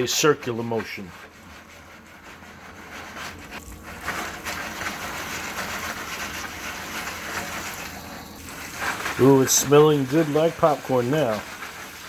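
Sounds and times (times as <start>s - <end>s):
pan scraping on burner: 0.0s - 12.0s
popcorn pan sizzling: 0.0s - 12.0s.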